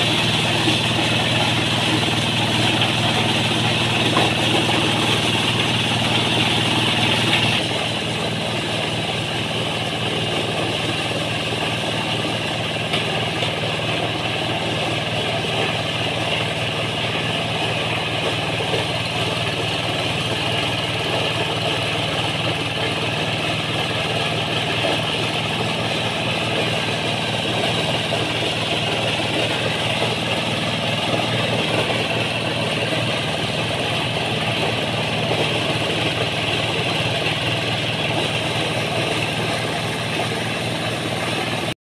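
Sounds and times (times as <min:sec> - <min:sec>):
engine hum: 0:00.0 - 0:41.8.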